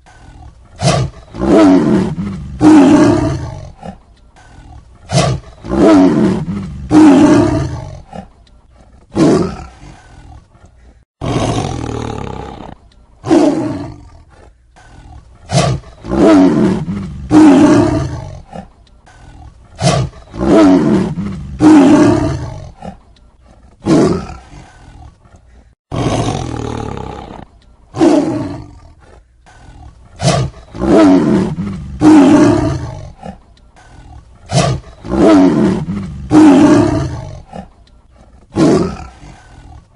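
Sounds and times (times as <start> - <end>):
tiger roaring: 0.0 - 39.9.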